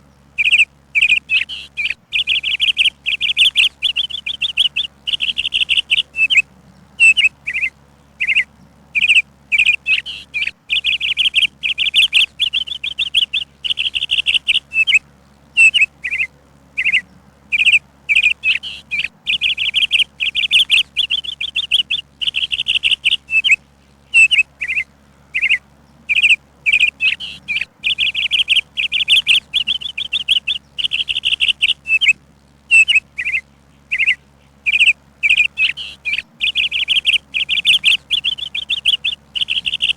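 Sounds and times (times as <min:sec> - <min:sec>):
bird chirping in trills: 0:00.0 - 0:39.9.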